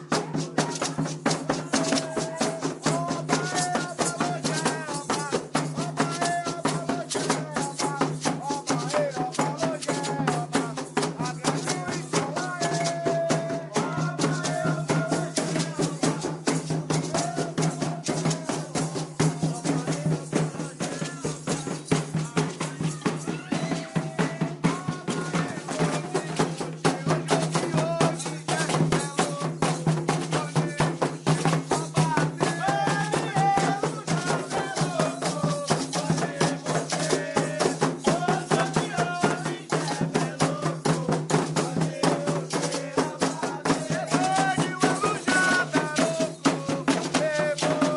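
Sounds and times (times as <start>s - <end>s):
hand drums beaten fast: 0.0s - 47.9s
voices singing: 0.0s - 47.9s.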